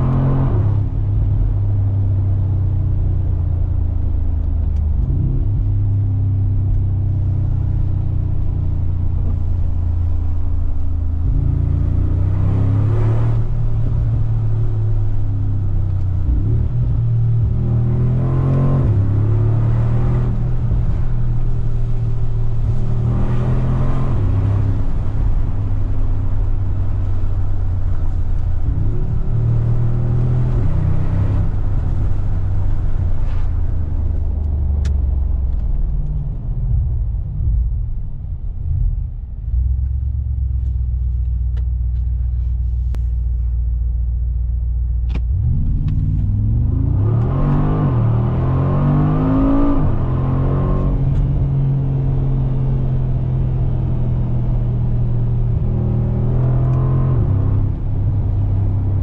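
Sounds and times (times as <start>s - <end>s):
deep car engine running: 0.0s - 59.0s.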